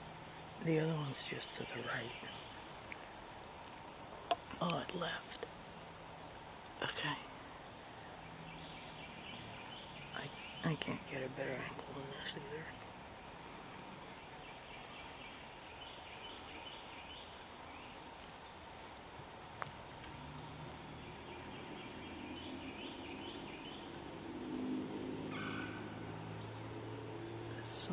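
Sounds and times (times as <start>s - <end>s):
faint low hum: 0.0s - 27.9s
insect chorus drone: 0.0s - 27.9s.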